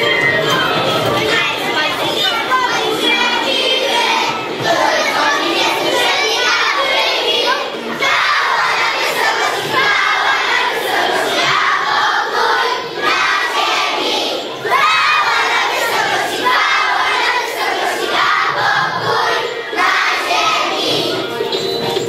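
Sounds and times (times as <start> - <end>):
children shouting and cheering: 0.0 - 22.0.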